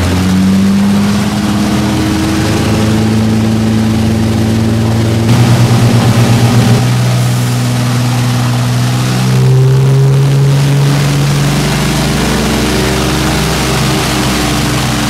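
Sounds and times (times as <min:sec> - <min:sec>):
aircraft engines droning in cockpit: 0:00.0 - 0:15.0.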